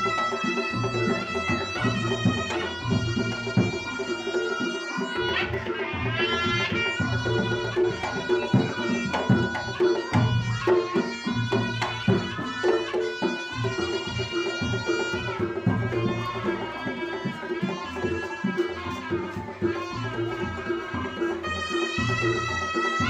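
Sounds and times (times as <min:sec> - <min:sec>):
hand drumming: 0:00.0 - 0:23.0
shawm melody: 0:00.0 - 0:23.0.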